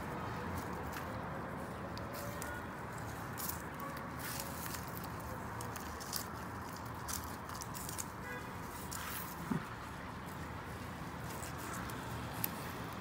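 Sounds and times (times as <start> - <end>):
hands rustling in dry soil: 0.0 - 13.0.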